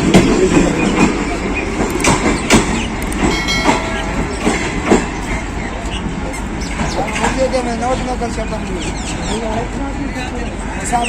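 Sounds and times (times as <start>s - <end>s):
train coaches rolling on rails: 0.0s - 11.0s
wheels clicking on rail joints: 0.0s - 11.0s.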